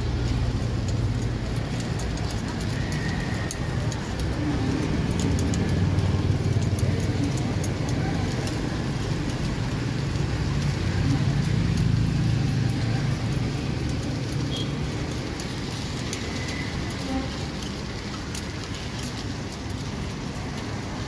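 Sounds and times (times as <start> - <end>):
road traffic rumble: 0.0 - 21.0
metal picks clicking in pan: 0.6 - 19.8.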